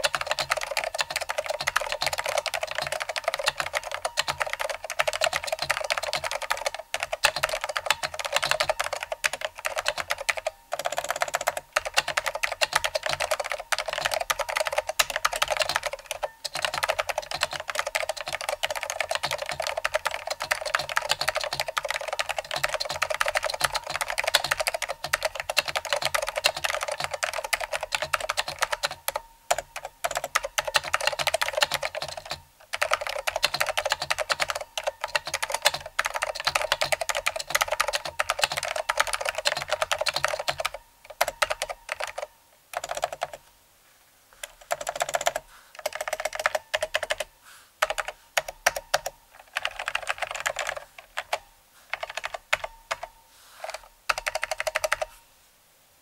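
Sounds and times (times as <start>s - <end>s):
fast keyboard typing: 0.0s - 43.4s, 44.4s - 55.2s.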